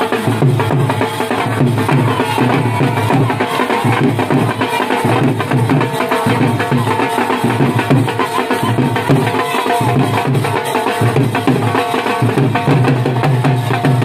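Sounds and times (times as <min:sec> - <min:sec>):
dhol drum dance rhythm: 0:00.0 - 0:14.0.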